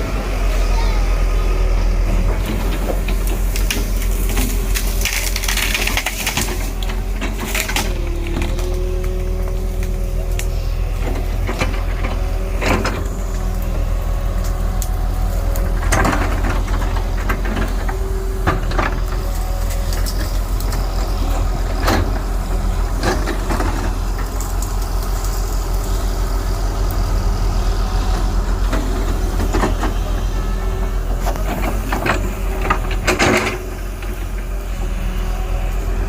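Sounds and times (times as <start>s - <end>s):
diesel engine of heavy machinery: 0.0s - 36.0s.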